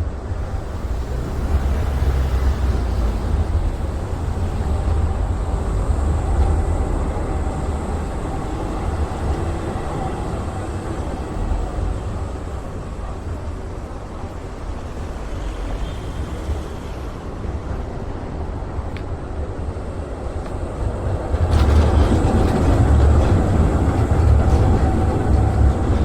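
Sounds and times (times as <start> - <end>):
wind rumble on microphone: 0.0 - 14.8, 17.2 - 26.0.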